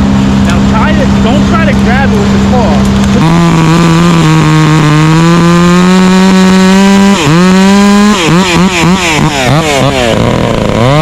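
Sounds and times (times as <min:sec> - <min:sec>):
chainsaw running at high revs: 0:00.0 - 0:11.0.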